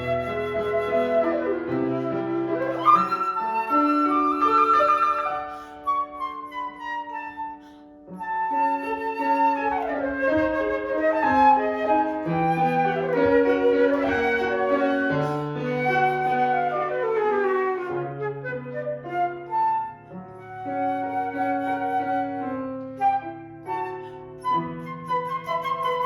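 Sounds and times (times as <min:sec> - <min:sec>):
flute playing: 0:00.0 - 0:26.0
piano accompaniment: 0:00.0 - 0:26.0.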